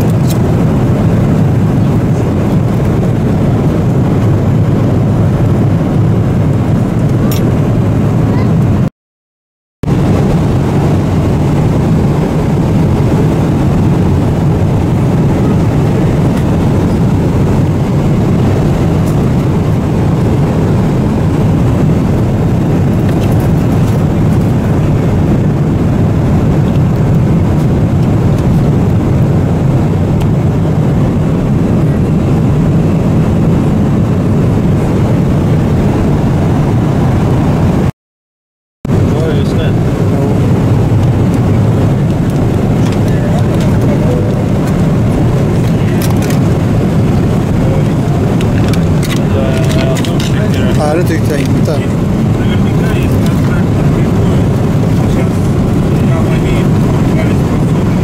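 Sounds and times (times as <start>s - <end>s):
airplane cabin rumble: 0.0s - 8.9s, 9.8s - 37.9s, 38.8s - 58.0s.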